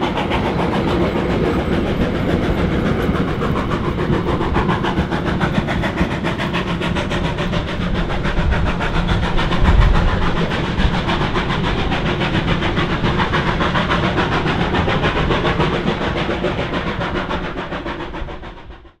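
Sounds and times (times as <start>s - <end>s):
train carriages rolling on track: 0.0s - 18.8s.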